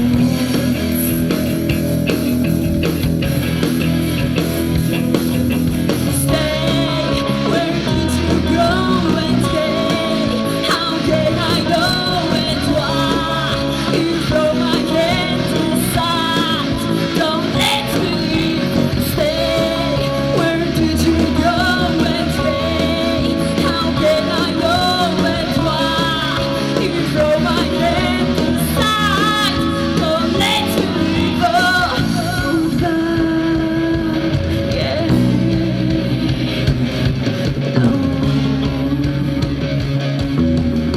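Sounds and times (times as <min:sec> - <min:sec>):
person singing: 0:00.0 - 0:01.8, 0:06.0 - 0:40.2
bass guitar: 0:00.0 - 0:40.9
electric guitars: 0:00.0 - 0:40.9.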